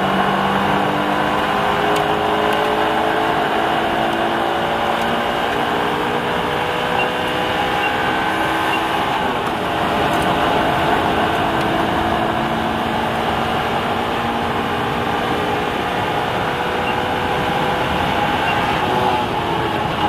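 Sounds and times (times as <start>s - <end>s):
car engine running: 0.0s - 20.0s
road and tyre noise: 0.0s - 20.0s.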